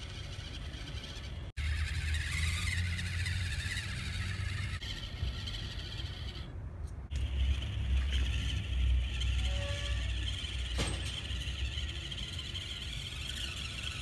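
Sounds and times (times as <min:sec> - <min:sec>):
small electric motor whirring: 0:00.0 - 0:14.0.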